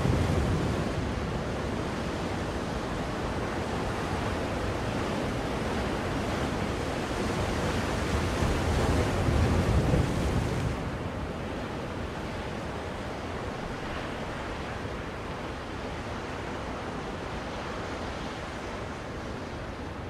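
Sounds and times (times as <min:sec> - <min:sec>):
ocean surf washing in: 0:00.0 - 0:20.0.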